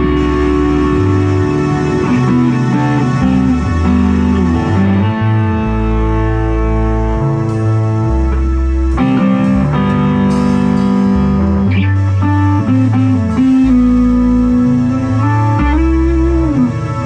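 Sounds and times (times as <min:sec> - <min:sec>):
electric guitar sustained notes: 0:00.0 - 0:17.0
rock band playing: 0:00.0 - 0:17.0.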